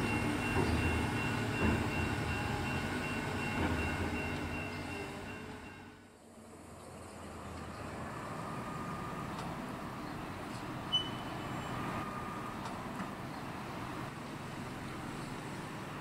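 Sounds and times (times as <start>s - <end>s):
distant rumble of rail car: 0.0s - 16.0s.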